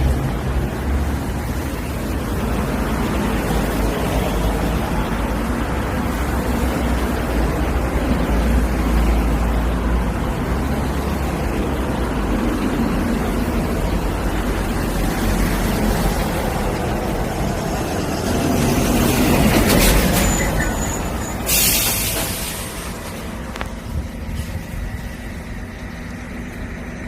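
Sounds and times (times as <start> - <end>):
cars driving on a road: 0.0 - 27.0.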